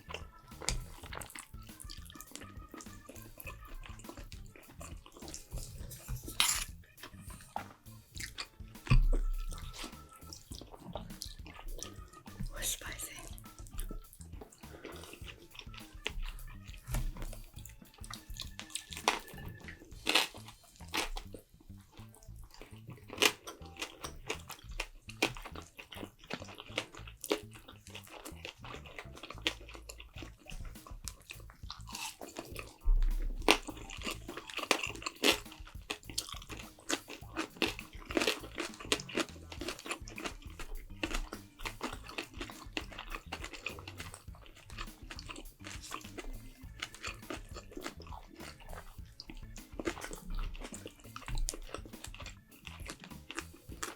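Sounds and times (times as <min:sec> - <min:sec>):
person chewing and crunching food: 0:00.0 - 0:53.9
sharp clicks and smacks: 0:00.0 - 0:53.9.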